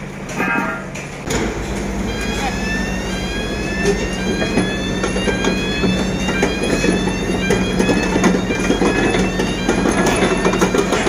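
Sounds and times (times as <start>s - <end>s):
crane engine hum: 0.0s - 11.0s
steel tracks clanking: 0.0s - 11.0s
rising squeals: 1.4s - 11.0s.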